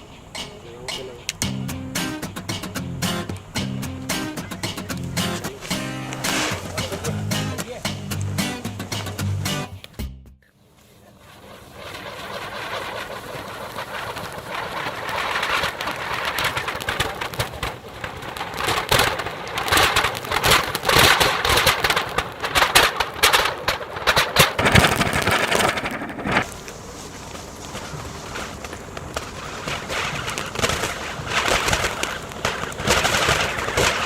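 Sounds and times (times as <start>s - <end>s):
firework fountains hissing and crackling: 0.0s - 9.6s, 10.6s - 34.0s.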